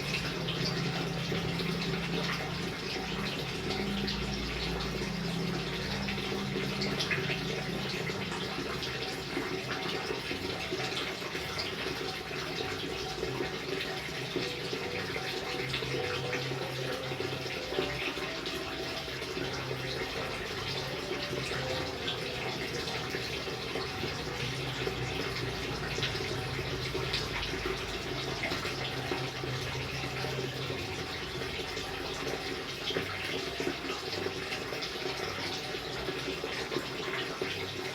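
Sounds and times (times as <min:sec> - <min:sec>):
water running and splashing: 0:00.0 - 0:37.9.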